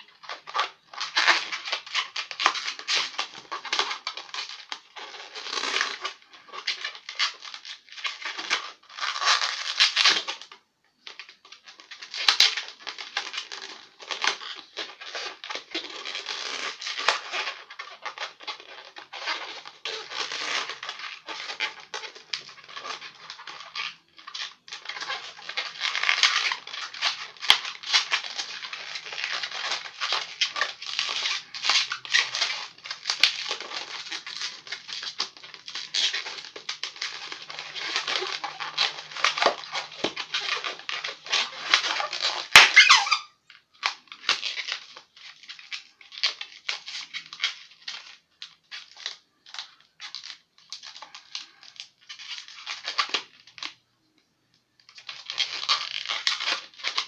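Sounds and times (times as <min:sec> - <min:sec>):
balloon squeaking and rubbing: 0:00.0 - 0:10.5, 0:11.1 - 0:53.4, 0:54.8 - 0:57.0.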